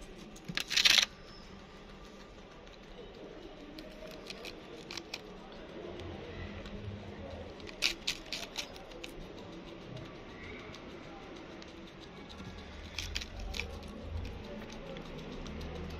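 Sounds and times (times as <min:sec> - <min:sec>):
small sharp clicks and crackles: 0:00.0 - 0:15.9.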